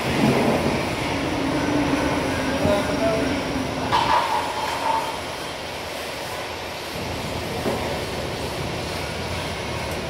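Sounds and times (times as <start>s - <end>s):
machinery noise: 0.0s - 10.0s.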